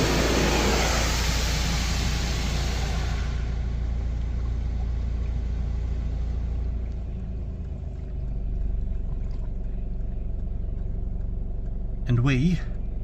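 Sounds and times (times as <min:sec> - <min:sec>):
low rumble inside car cabin: 0:00.0 - 0:13.0.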